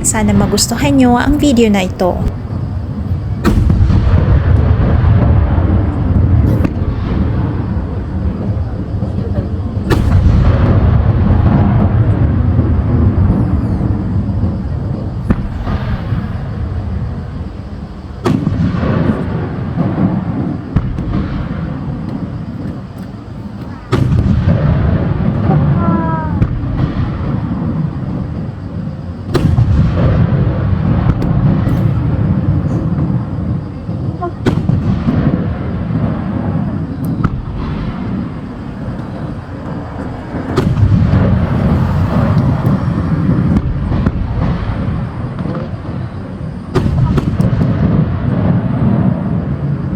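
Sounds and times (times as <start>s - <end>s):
firework shells bursting: 0.0s - 49.9s
rumbling crackle of fireworks: 0.0s - 49.9s.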